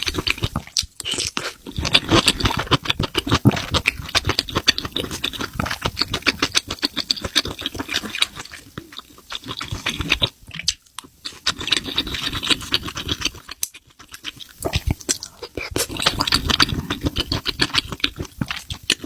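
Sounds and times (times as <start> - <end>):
wet crackling chewing: 0.0 - 19.0.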